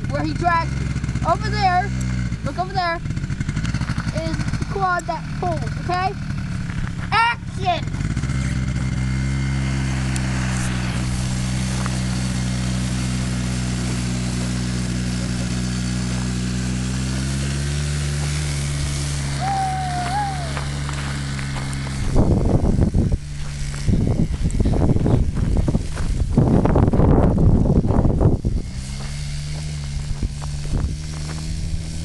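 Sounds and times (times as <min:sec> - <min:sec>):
bursts of rough noise: 0:00.0 - 0:32.0
quad engine running: 0:00.0 - 0:32.0.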